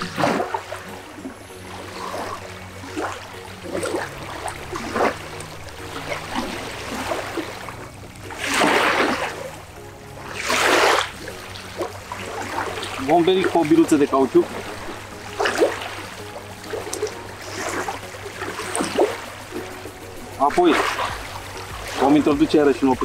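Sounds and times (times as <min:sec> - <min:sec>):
quiet background music: 0:00.0 - 0:23.0
waves lapping on sandy bank: 0:00.0 - 0:23.0.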